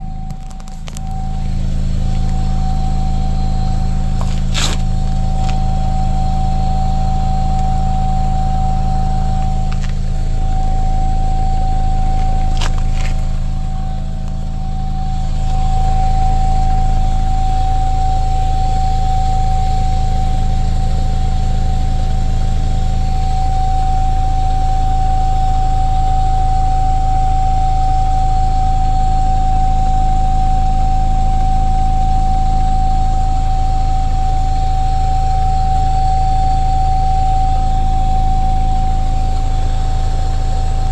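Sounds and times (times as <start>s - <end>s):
low steady hum: 0.0s - 40.9s
steady high hissing tone: 0.0s - 40.9s.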